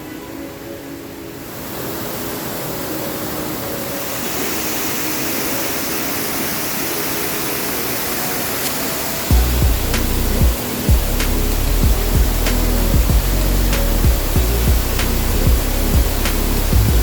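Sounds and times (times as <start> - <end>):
waterfall rushing: 1.2 - 17.0.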